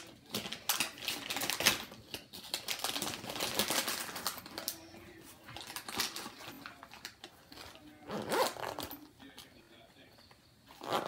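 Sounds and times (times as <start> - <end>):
makeup items rummaged in pouch: 0.0 - 9.4.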